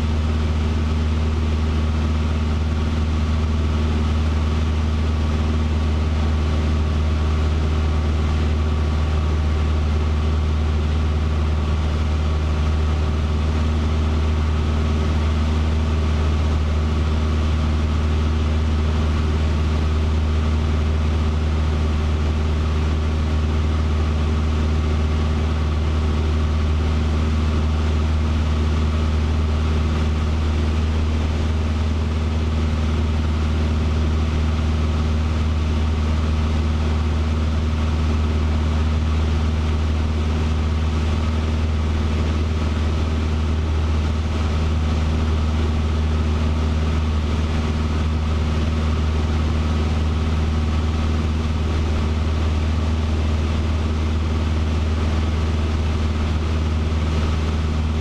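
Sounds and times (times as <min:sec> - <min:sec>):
airplane engine and propeller drone: 0:00.0 - 0:58.0.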